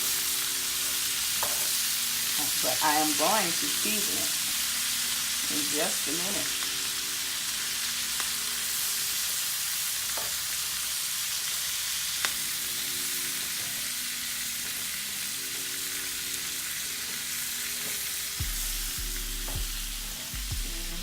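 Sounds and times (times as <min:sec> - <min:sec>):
cabbage sizzling in fat: 0:00.0 - 0:21.0.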